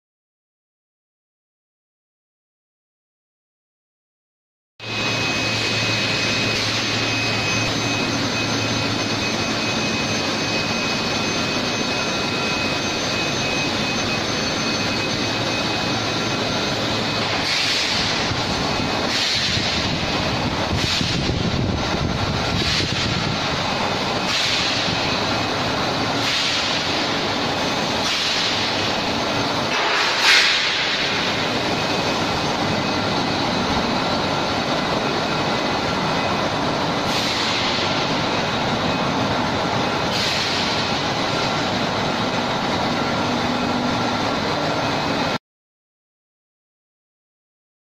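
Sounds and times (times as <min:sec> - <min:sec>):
industrial machinery running: 0:04.8 - 0:45.4.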